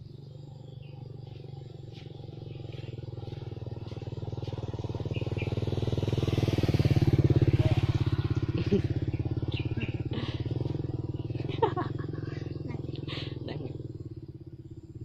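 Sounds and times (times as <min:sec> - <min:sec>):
motorcycle engine passing: 0:00.0 - 0:15.0.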